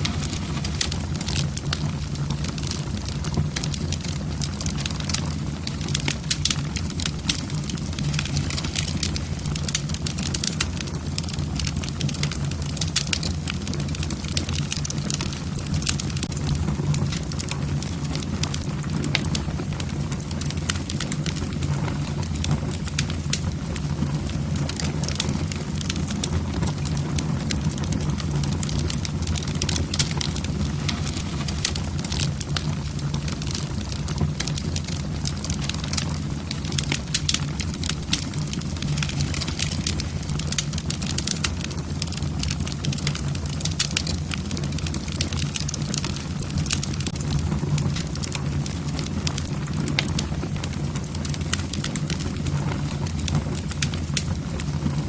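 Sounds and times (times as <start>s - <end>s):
low rumble of flames: 0.0s - 55.0s
wood crackling and popping: 0.0s - 55.0s.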